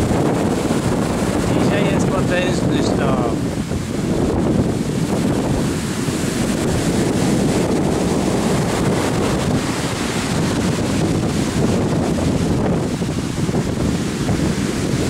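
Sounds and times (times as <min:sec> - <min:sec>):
waves crashing on sand and rocks: 0:00.0 - 0:15.0
wind buffeting microphone: 0:00.0 - 0:15.0.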